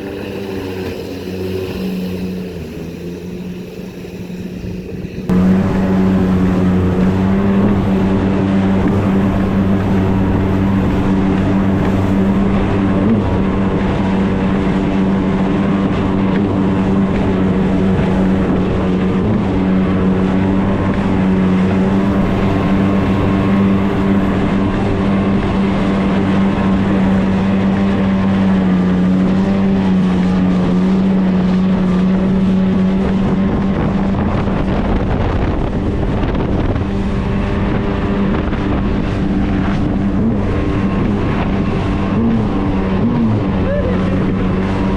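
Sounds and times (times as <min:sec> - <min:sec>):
jet ski engine running: 0:00.0 - 0:44.9
wind on microphone: 0:00.0 - 0:44.9.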